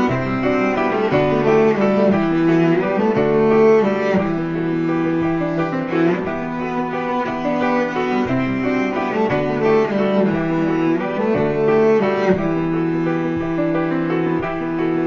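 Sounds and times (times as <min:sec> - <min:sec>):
slow bowed string music: 0:00.0 - 0:15.0.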